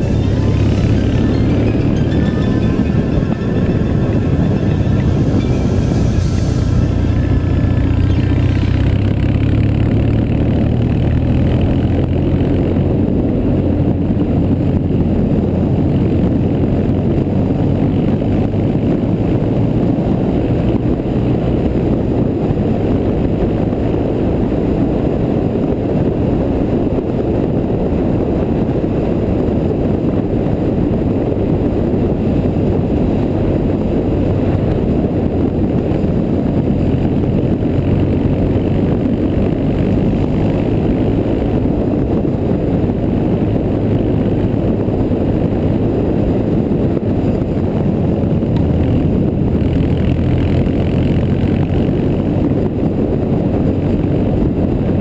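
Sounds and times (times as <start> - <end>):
motorcycle engine running: 0.0 - 55.0
wind rushing on microphone: 0.0 - 55.0.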